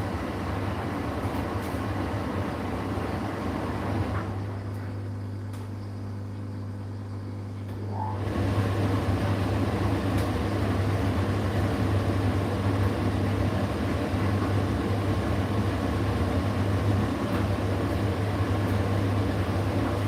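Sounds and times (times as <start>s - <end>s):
tumble dryer running: 0.0s - 5.0s, 7.6s - 20.0s.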